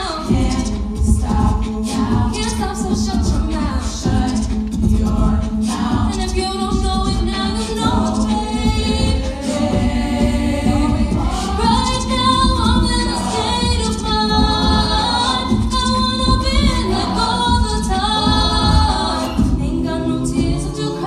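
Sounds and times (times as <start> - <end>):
a cappella group singing: 0.0 - 21.0.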